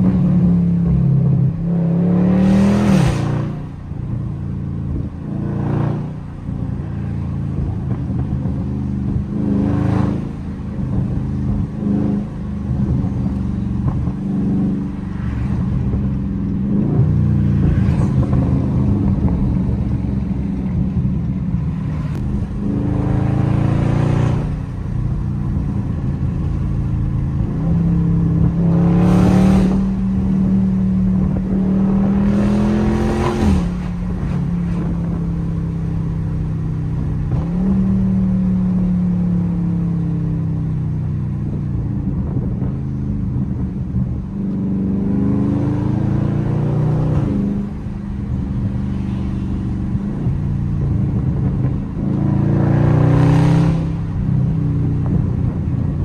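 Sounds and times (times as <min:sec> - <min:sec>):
car engine accelerating: 0:00.0 - 0:40.8, 0:41.4 - 0:56.0.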